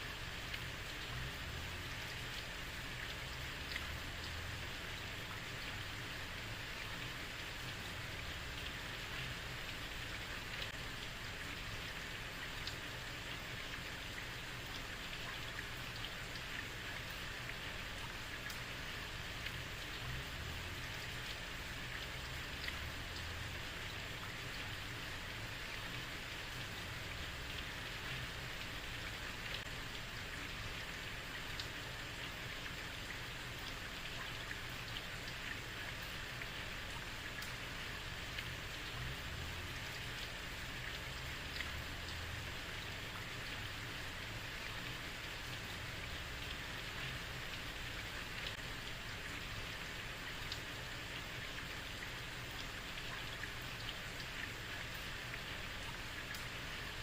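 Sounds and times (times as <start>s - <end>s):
heavy rain hissing on street: 0.0s - 57.0s
raindrop ticks: 0.3s - 6.0s, 6.6s - 57.0s.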